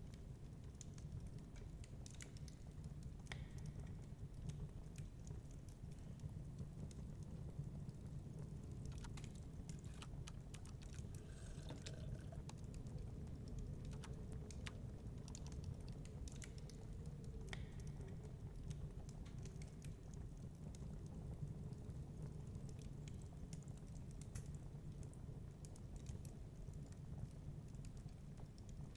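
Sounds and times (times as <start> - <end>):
fireplace fire crackling: 0.0 - 28.9.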